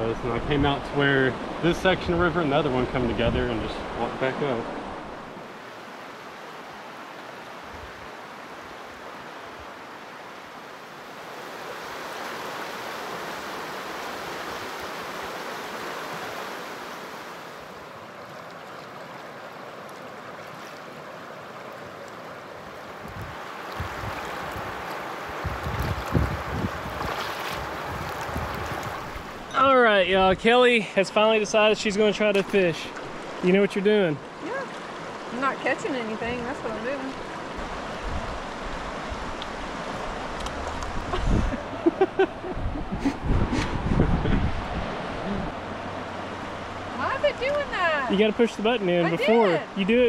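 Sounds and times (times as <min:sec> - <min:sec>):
creek rapids rushing over rocks: 0:03.8 - 0:41.1, 0:44.8 - 0:50.0.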